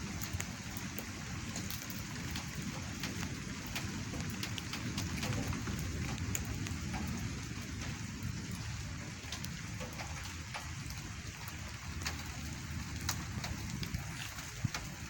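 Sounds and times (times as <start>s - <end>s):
raindrops ticking: 0.0s - 15.0s
steady low rain rumble: 0.0s - 15.0s.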